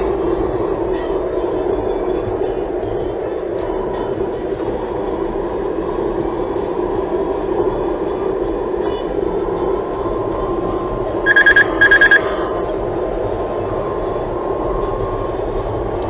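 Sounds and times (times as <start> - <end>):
road and tyre noise: 0.0 - 16.0.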